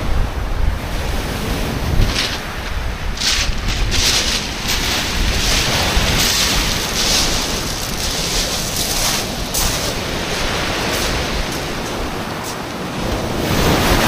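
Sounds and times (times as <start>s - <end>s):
surf on shingle beach: 0.0s - 14.0s
wind buffeting microphone: 0.0s - 14.0s.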